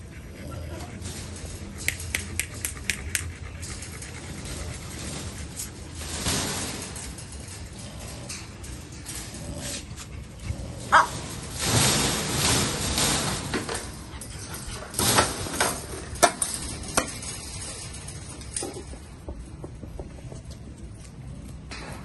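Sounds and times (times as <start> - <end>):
dogs barking and yapping: 0.0 - 21.6
sharp clicks and knocks: 1.1 - 9.2, 9.8 - 22.0.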